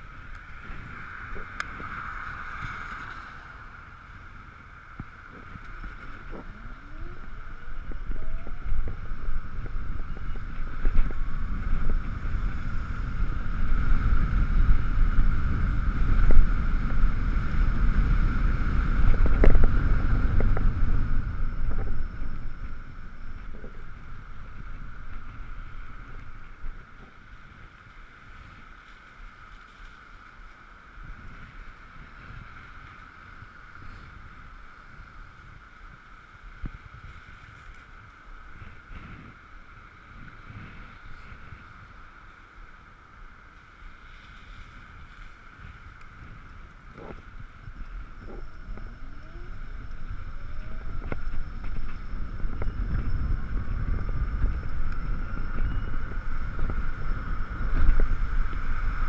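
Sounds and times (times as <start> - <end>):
wind rush: 0.0 - 28.8, 30.9 - 59.0
electric scooter whine: 0.0 - 59.0
wet road noise: 0.0 - 59.0.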